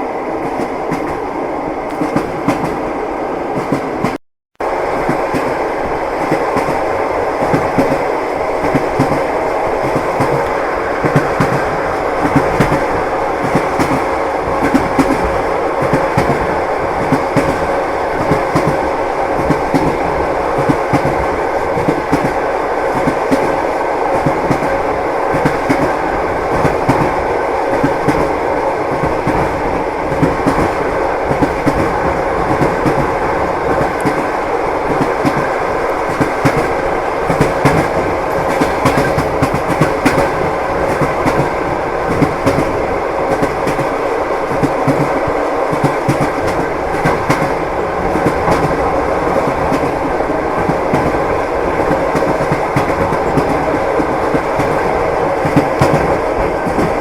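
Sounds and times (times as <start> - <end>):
train rumbling: 0.0 - 57.0
train wheels clickety-clack: 0.4 - 1.2, 1.9 - 2.9, 3.5 - 4.2, 4.9 - 57.0.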